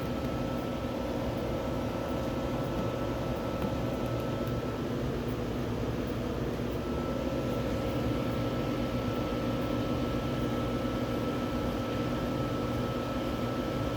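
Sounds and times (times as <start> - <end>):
machine hum with fan noise: 0.0 - 13.9.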